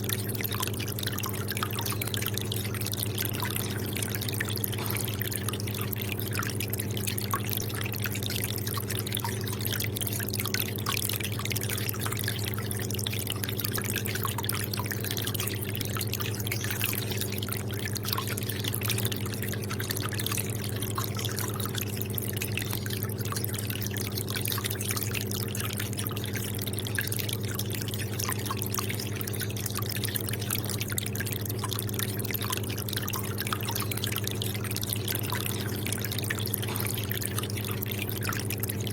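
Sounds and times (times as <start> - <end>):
steady low hum: 0.0 - 38.9
water trickling and dripping: 0.0 - 38.9.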